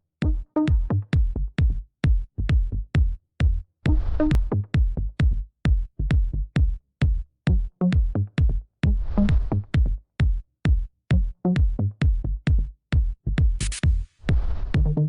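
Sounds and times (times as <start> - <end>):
punchy kick drum beat: 0.2 - 15.0.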